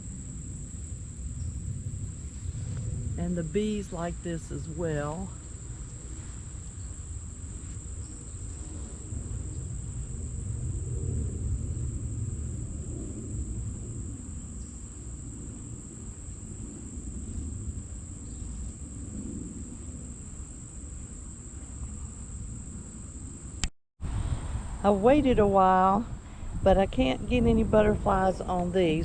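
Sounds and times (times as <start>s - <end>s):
high-pitched insect chorus: 0.0s - 24.5s
low rumble: 0.0s - 29.0s.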